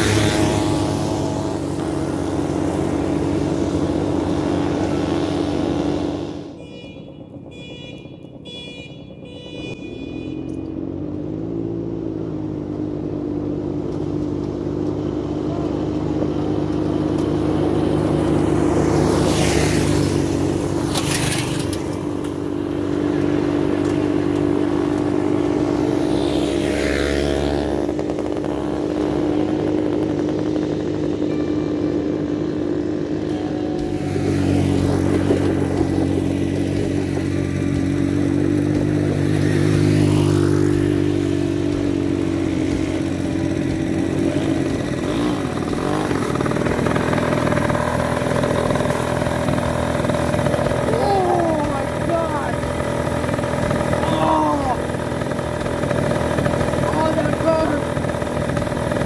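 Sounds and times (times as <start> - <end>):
small engines droning: 0.0 - 59.0.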